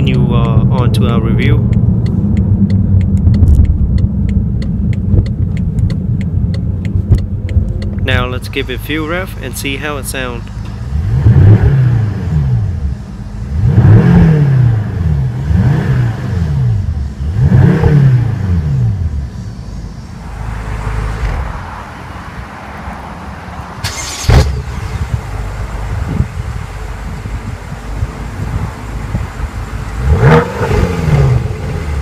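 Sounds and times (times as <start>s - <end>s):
car engine revving and idling: 0.0s - 32.0s.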